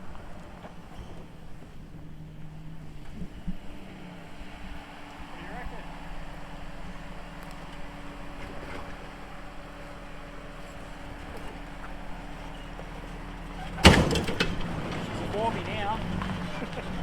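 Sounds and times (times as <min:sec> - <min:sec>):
engine running with even hum: 0:00.0 - 0:17.0.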